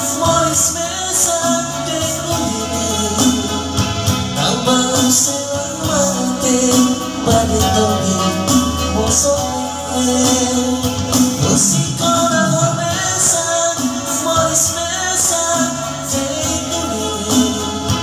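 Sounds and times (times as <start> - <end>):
electronic keyboard: 0.0 - 18.0
man singing into a microphone: 0.0 - 18.0
steady beat: 0.0 - 18.0.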